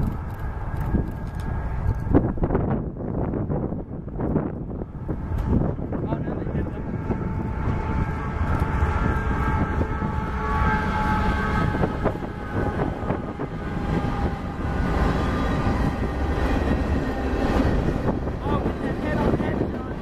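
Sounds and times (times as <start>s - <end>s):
diesel locomotives rumbling: 0.0s - 20.0s.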